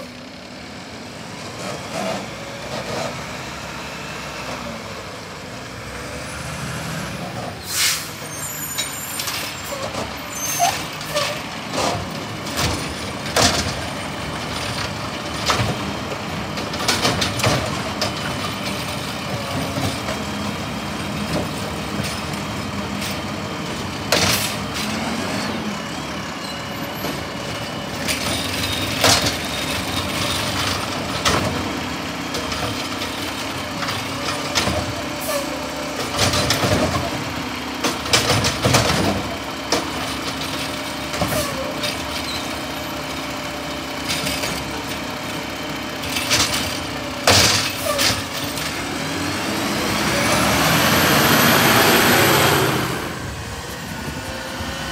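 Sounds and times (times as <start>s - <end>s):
diesel engine running: 0.0s - 54.9s
carts clunking against truck: 8.4s - 54.9s.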